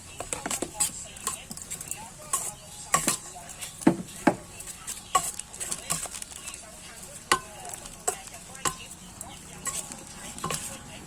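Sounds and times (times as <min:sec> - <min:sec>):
utensils clicking against dishes: 0:00.0 - 0:11.0.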